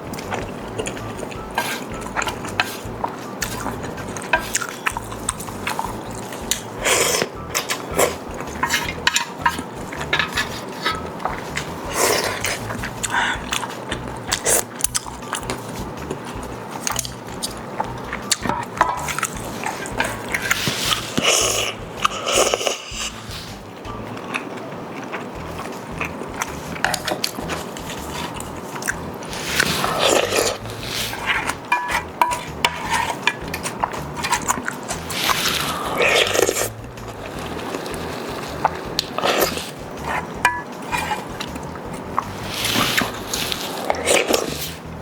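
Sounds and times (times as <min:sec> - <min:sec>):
person chewing food: 0:00.0 - 0:45.0.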